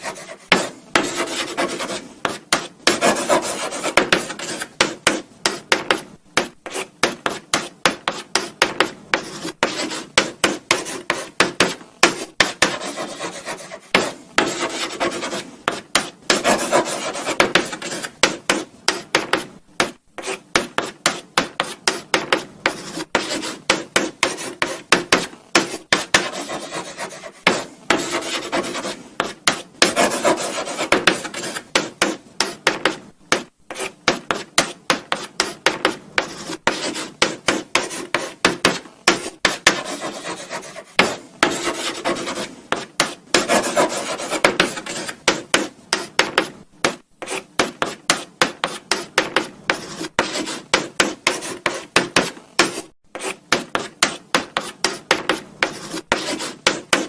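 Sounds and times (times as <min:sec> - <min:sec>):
chalk scratching on blackboard: 0:00.0 - 0:57.0.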